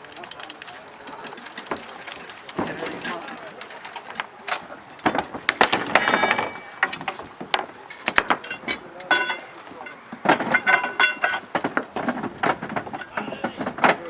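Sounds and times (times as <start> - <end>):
metal parts clanking: 0.0 - 14.0.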